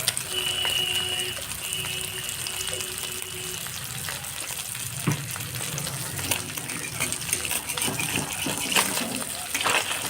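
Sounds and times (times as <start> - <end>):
oil sizzling in a frying pan: 0.0 - 10.0.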